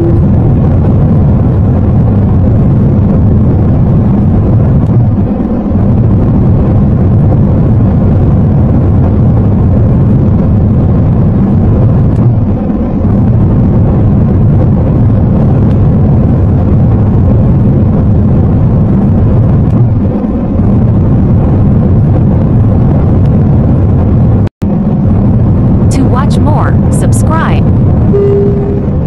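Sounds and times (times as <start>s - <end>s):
jet airliner rumble in flight: 0.0s - 29.0s.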